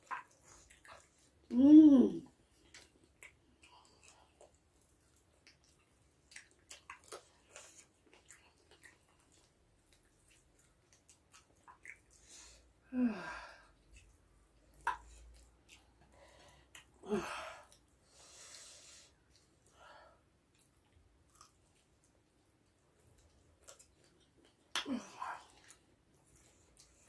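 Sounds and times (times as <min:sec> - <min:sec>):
close-up chewing: 0:00.0 - 0:01.6, 0:02.2 - 0:12.8, 0:13.4 - 0:17.0, 0:17.6 - 0:27.0.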